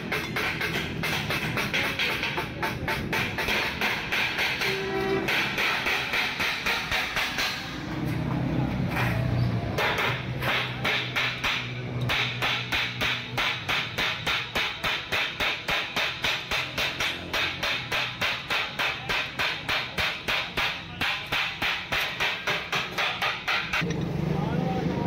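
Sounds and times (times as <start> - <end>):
hammer striking sheet steel: 0.0 - 23.9.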